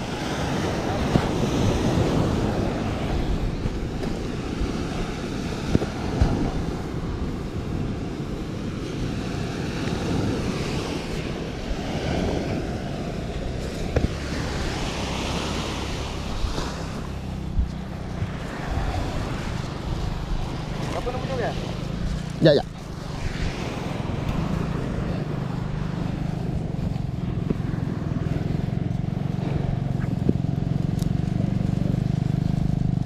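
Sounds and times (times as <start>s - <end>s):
small waves breaking on beach: 0.0s - 33.0s
wind buffeting microphone: 0.0s - 33.0s.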